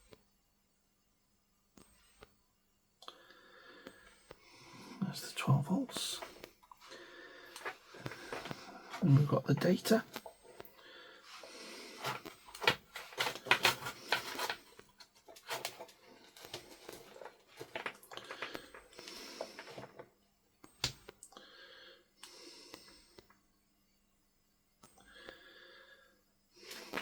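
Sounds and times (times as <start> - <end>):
soft close breathing: 3.0 - 23.4, 24.9 - 27.0.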